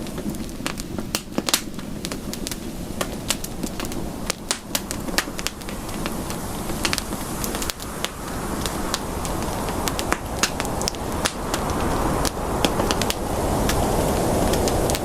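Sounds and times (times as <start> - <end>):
campfire popping and snapping: 0.0 - 15.0
low rush of burning: 0.0 - 15.0.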